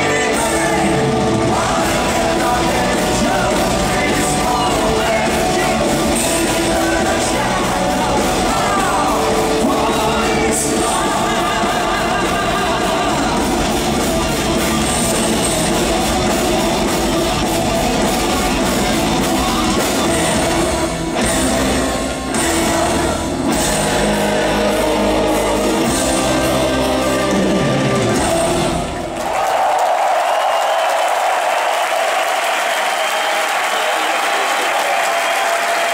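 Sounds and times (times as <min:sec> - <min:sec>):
live metal band playing: 0:00.0 - 0:29.2.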